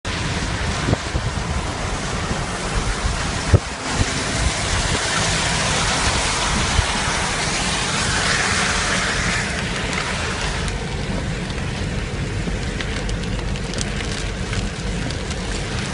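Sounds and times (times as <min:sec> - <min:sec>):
wind buffeting microphone: 0:00.1 - 0:15.9
heavy rain hissing: 0:00.2 - 0:15.9.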